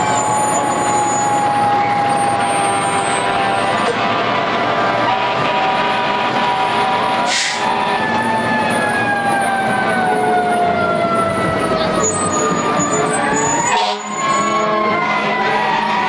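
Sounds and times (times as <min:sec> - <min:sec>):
truck engine running: 0:00.0 - 0:13.6
fire engine siren: 0:00.0 - 0:16.0.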